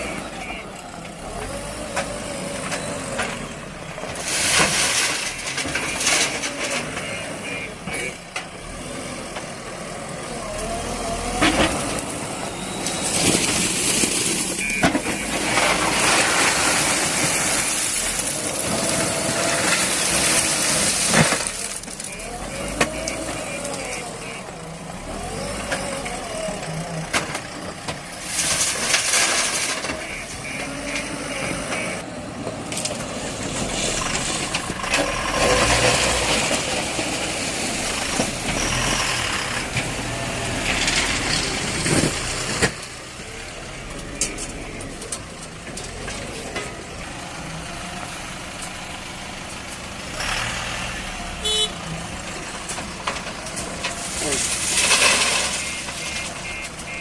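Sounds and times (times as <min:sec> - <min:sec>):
backhoe diesel engine under load: 0:00.0 - 0:57.0.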